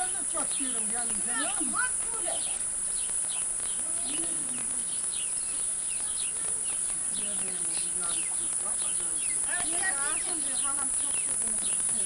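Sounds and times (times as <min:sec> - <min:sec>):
faint voices: 0:00.0 - 0:12.0
high-pitched insect drone: 0:00.0 - 0:12.0
small birds chirping: 0:00.0 - 0:12.0.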